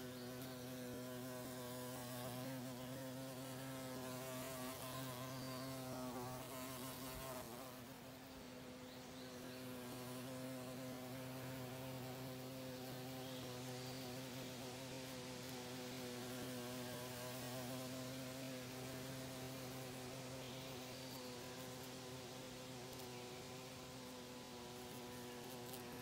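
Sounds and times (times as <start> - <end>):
bee buzzing: 0.0 - 26.0.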